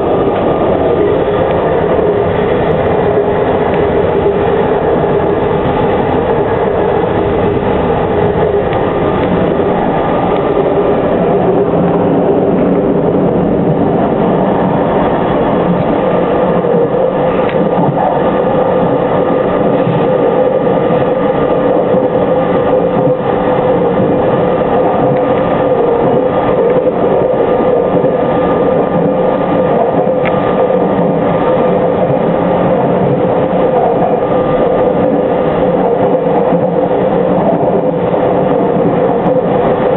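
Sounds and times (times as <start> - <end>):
electric train running on rails: 0.0 - 39.9.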